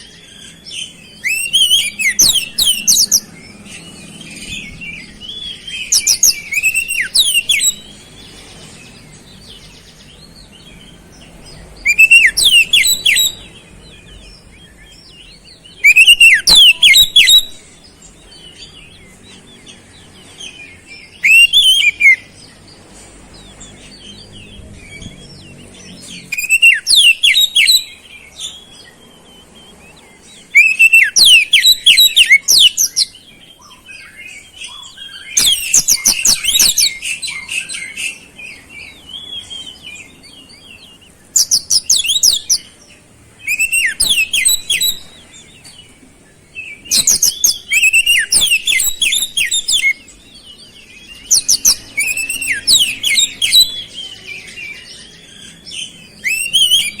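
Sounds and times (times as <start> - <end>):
songbird chirping and whistling: 0.0 - 22.8, 23.4 - 57.0.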